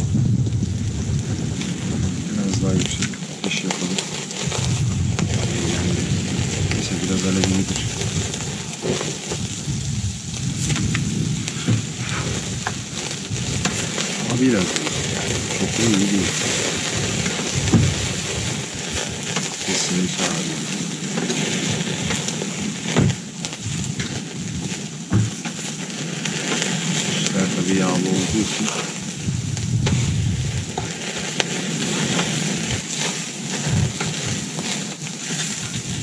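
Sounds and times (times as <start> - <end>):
food sizzling on a grill: 0.0 - 36.0.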